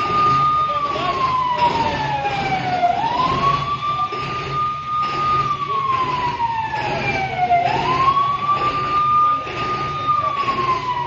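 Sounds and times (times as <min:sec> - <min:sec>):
wailing truck siren: 0:00.0 - 0:11.0.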